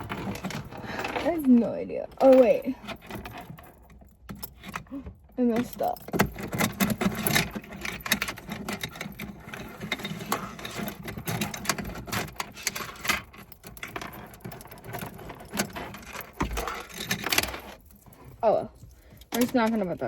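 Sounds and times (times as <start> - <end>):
keys and chain rattling: 0.0 - 20.0.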